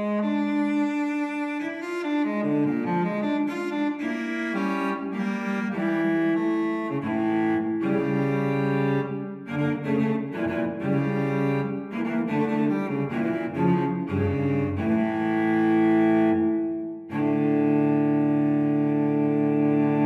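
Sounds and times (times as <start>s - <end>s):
solo cello playing: 0.0s - 20.0s.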